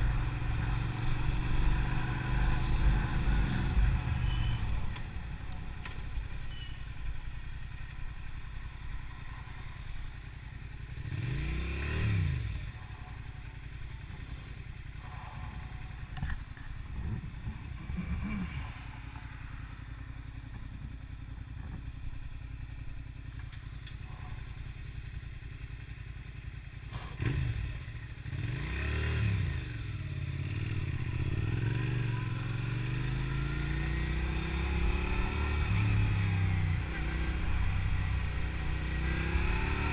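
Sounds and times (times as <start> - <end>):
road noise: 0.0 - 39.9
vehicle engine: 0.0 - 39.9.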